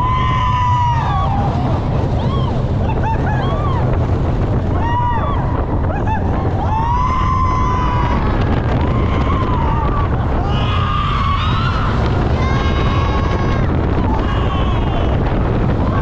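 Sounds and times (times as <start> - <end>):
people screaming: 0.0 - 16.0
roller coaster train rumble: 0.0 - 16.0
rush of wind: 0.0 - 16.0
wind buffeting microphone: 0.0 - 16.0.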